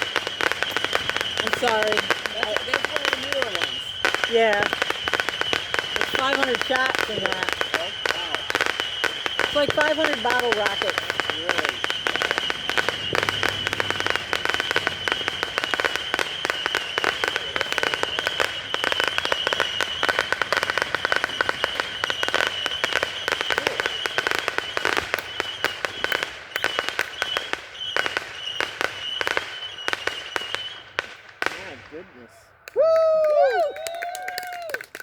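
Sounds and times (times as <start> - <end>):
firework pops: 0.0 - 32.1
firework whistle: 0.0 - 34.8.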